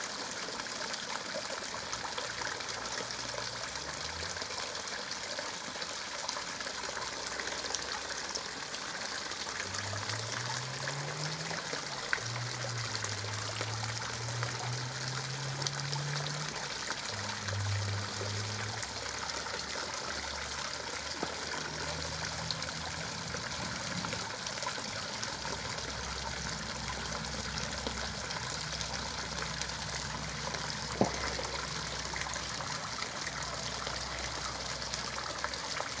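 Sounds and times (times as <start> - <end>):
running water trickling: 0.0 - 36.0.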